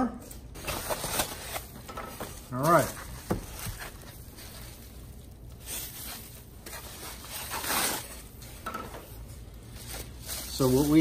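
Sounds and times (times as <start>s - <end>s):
foam and bubble wrap rustling: 0.4s - 11.0s.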